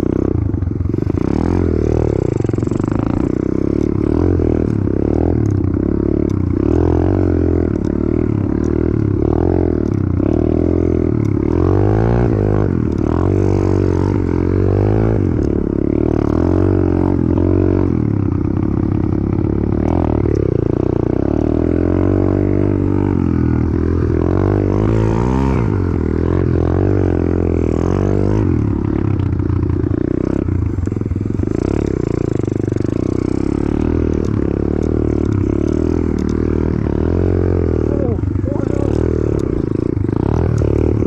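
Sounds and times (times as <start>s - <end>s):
motorbike engine revving: 0.0s - 41.0s.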